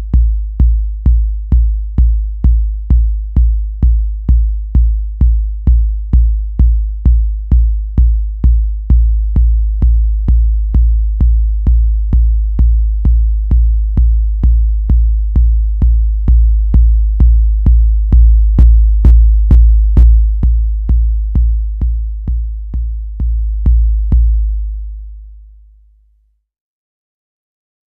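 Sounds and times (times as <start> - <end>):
deep booming kick drum: 0.0 - 25.2.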